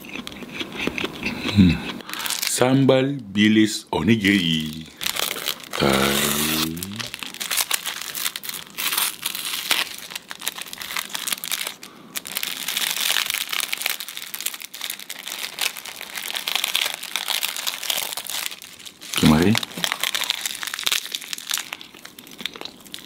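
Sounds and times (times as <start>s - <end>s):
plastic wrapper crinkling and tearing: 2.0s - 2.6s, 4.4s - 23.0s.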